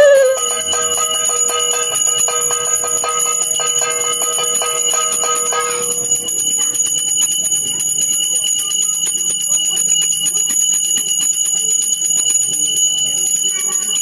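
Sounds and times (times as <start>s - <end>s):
small hand bell ringing: 0.0s - 14.0s.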